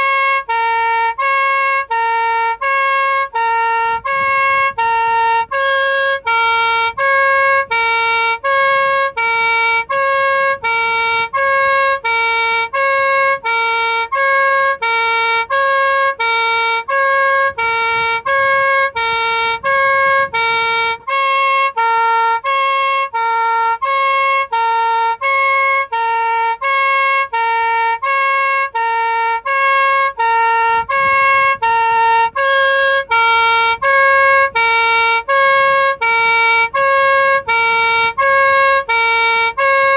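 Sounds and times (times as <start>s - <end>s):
two-tone police horn: 0.0s - 39.9s.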